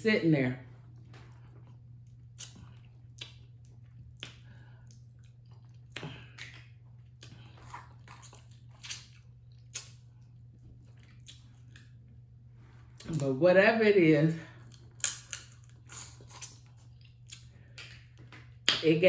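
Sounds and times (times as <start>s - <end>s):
wet chewing and lip smacks: 0.9s - 12.3s, 14.6s - 18.7s.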